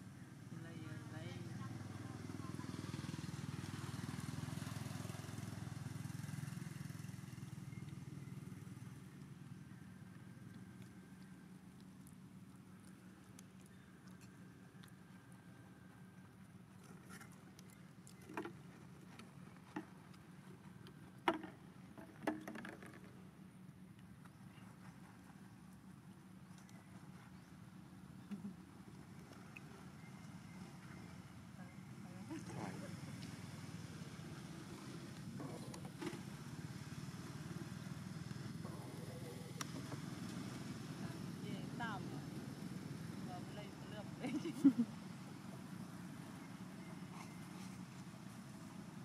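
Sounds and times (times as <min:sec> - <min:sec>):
engine rumbling: 0:00.0 - 0:49.0.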